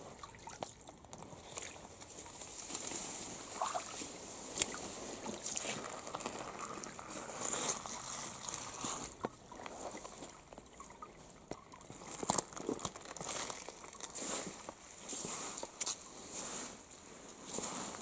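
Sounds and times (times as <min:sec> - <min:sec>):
footsteps on wet gravel and leaves: 0:01.4 - 0:10.4, 0:11.9 - 0:18.0.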